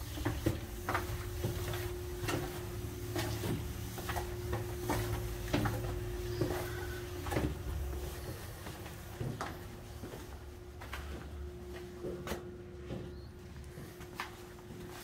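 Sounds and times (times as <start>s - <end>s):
faint steady hum: 0.0s - 15.0s
footsteps on stairs: 0.0s - 15.0s.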